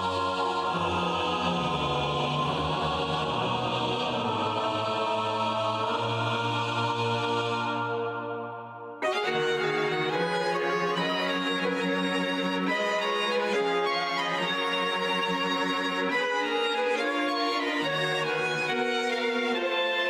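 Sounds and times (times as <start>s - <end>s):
chanting voices holding notes: 0.0s - 20.0s.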